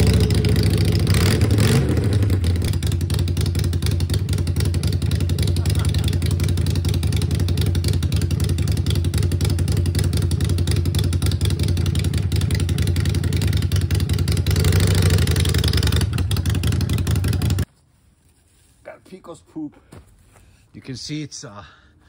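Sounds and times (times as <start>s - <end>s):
motorcycle engine idling: 0.0s - 17.7s.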